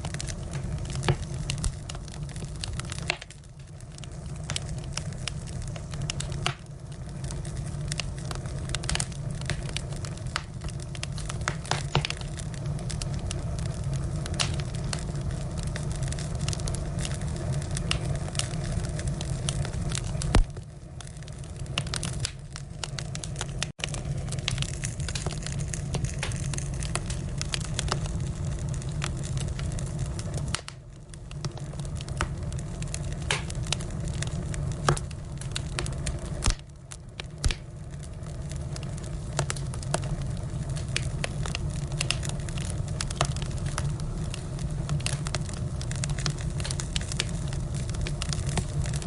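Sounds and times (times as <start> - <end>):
firewood crackling and popping: 0.0 - 49.0.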